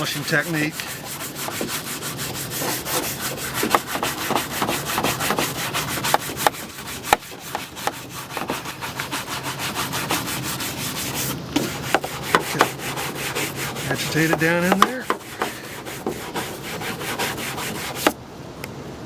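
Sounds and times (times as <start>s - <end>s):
brush scrubbing plastic: 0.0s - 18.2s.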